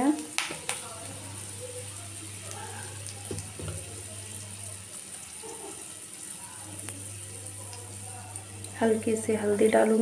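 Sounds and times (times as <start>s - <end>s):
seeds sizzling in hot oil: 0.0s - 10.0s.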